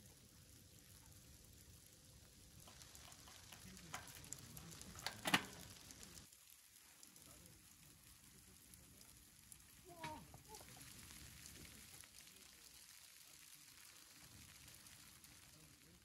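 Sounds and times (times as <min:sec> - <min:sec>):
snow pellets falling: 0:00.0 - 0:16.0.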